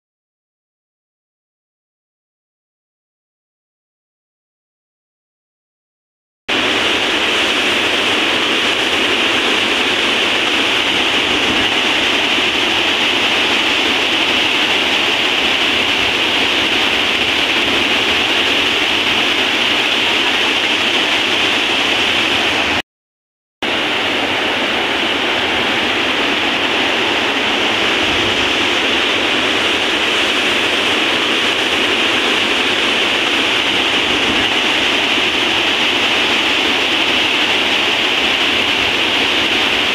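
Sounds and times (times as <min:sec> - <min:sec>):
waterfall roaring: 0:06.5 - 0:22.8, 0:23.6 - 0:39.9.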